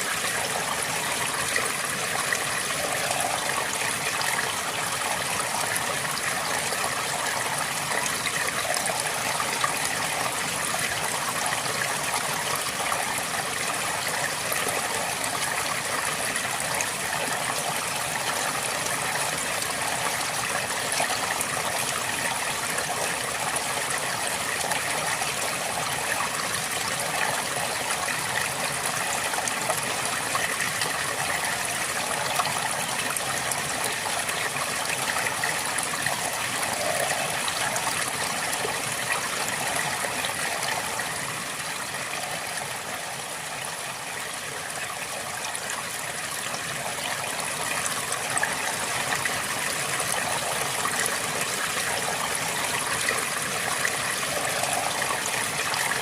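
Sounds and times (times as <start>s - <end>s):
river water babbling: 0.0s - 56.0s.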